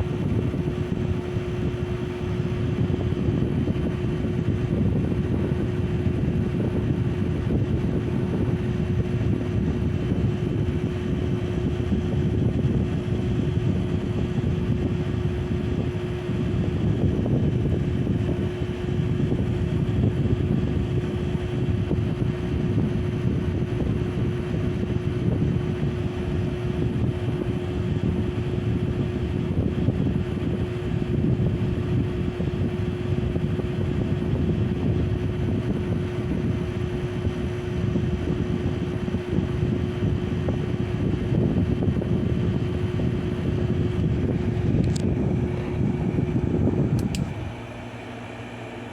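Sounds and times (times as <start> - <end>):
ceiling fan whoosh and motor hum: 0.0 - 48.9.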